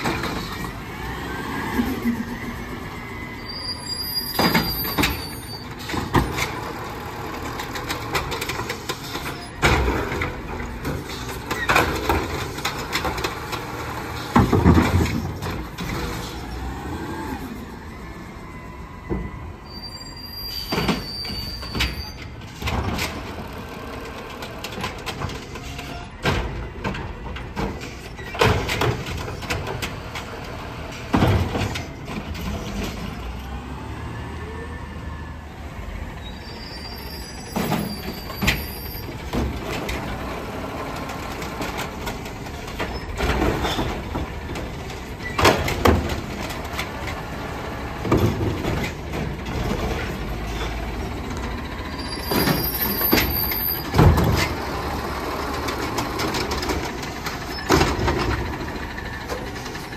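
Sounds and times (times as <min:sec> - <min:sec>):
loud bangs and clanks of carts: 0:00.0 - 0:02.9, 0:03.7 - 0:16.7, 0:20.2 - 0:33.4, 0:36.8 - 0:59.9
garbage trucks running: 0:00.0 - 0:59.9.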